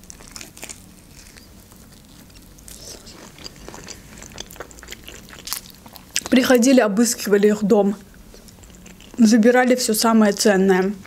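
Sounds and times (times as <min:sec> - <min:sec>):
chewing crispy fried chicken: 0:00.0 - 0:06.7, 0:08.1 - 0:11.0.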